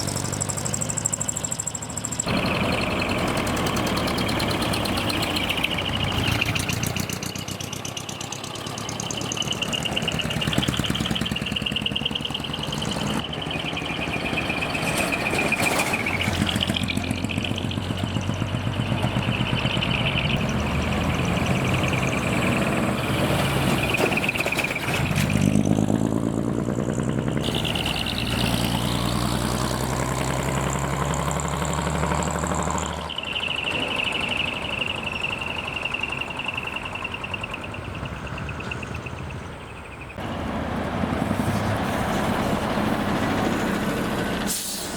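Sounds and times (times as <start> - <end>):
diesel truck engines running: 0.0 - 44.9
truck engine revving: 0.0 - 44.9.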